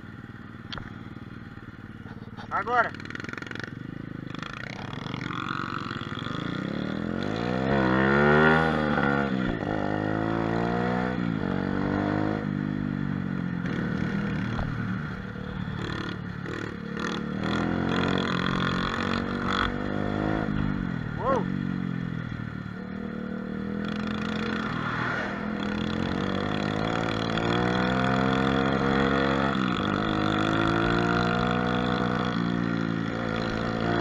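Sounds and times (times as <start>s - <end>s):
motorcycle engine revving hard: 2.5s - 34.0s.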